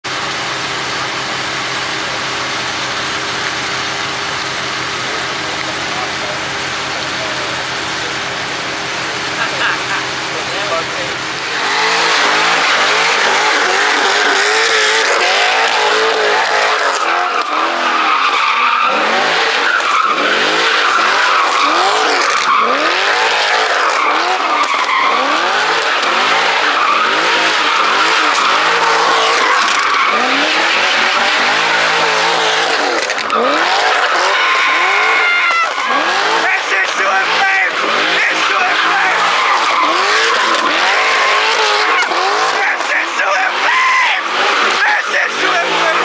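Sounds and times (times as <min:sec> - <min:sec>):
car engine revving: 0:00.0 - 0:46.0
tyres squealing: 0:01.2 - 0:46.0.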